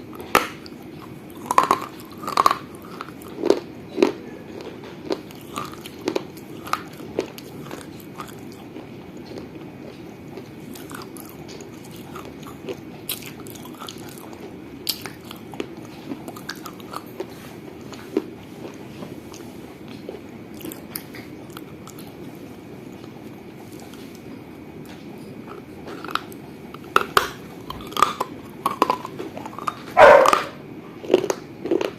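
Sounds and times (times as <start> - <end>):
crunching baked clay: 0.0 - 31.9.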